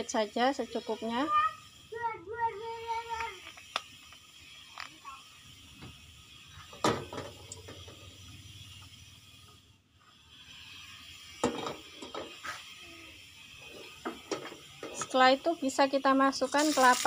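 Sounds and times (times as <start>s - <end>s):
gas stove burner hissing: 0.0s - 17.0s.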